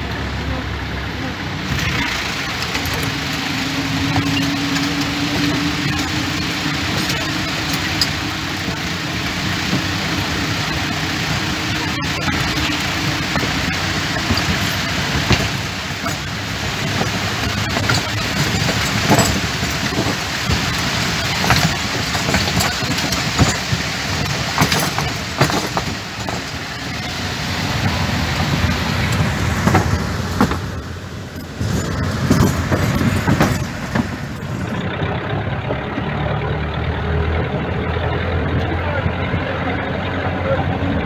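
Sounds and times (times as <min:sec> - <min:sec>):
vehicle driving over wooden bridge: 0:00.0 - 0:41.0
cab rattling and knocking: 0:01.7 - 0:36.1.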